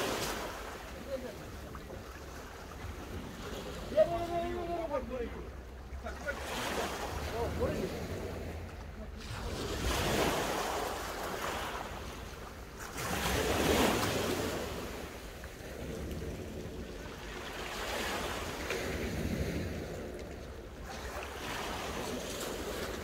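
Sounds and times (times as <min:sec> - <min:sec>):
waves washing on shingle beach: 0:00.0 - 0:23.0.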